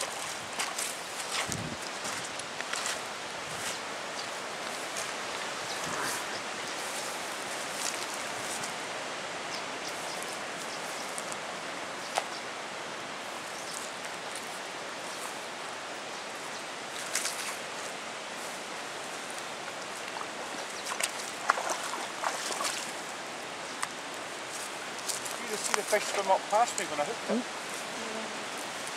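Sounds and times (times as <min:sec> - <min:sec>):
flowing river water: 0:00.0 - 0:28.9
wind: 0:00.0 - 0:28.9.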